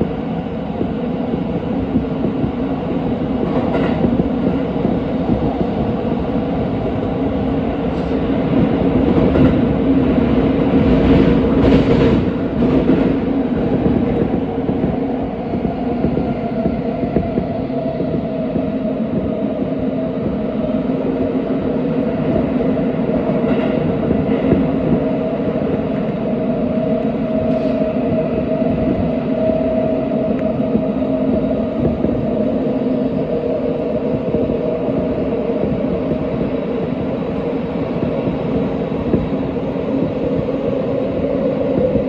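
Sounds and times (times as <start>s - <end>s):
train drive humming: 0.0s - 42.0s
train wheels rumbling on rail: 0.0s - 42.0s.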